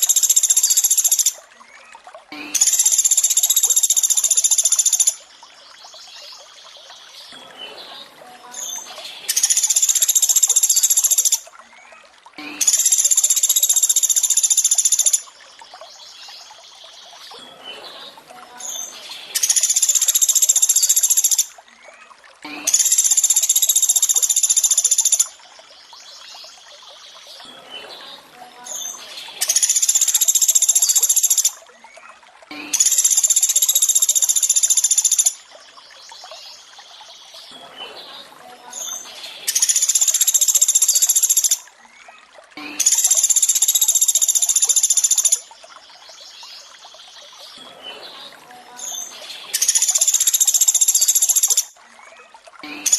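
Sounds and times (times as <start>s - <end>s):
faint water: 0.0s - 52.9s.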